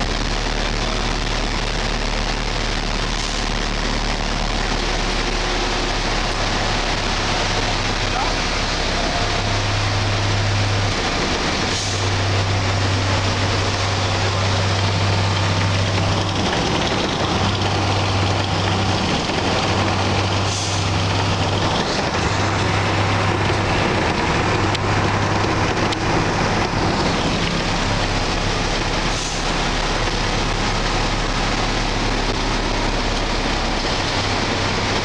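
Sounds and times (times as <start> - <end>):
vehicle engine hum and road noise: 0.0 - 35.0.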